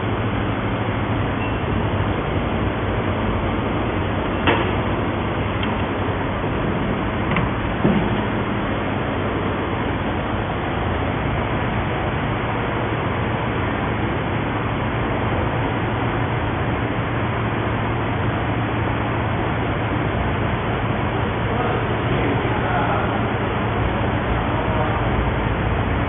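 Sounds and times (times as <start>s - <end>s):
furnace machine humming: 0.0s - 26.0s.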